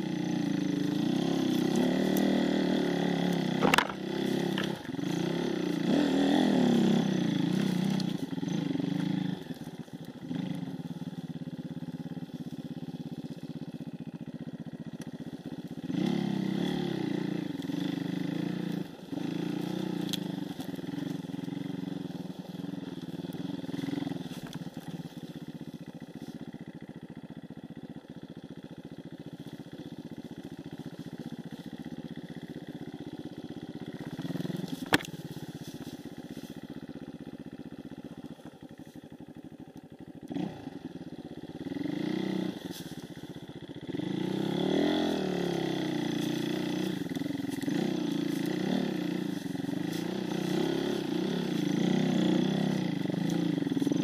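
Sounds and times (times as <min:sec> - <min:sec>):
dirt bike engine revving: 0:00.0 - 0:25.9, 0:29.0 - 0:36.6, 0:40.2 - 0:54.0.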